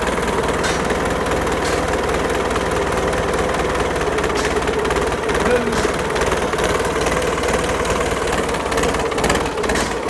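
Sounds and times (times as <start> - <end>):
marine diesel engine idling: 0.0 - 10.0.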